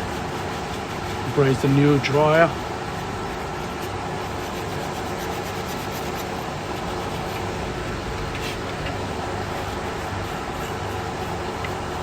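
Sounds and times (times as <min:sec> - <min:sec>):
cloth rubbing on copper pipe: 0:00.0 - 0:12.0
steady mechanical hum: 0:00.0 - 0:12.0.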